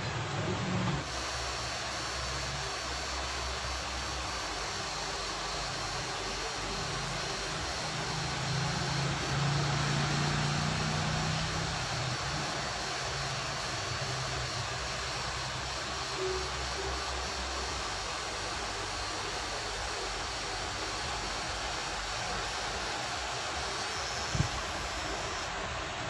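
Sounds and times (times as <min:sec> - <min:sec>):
tattoo machine buzzing: 0:01.0 - 0:25.6.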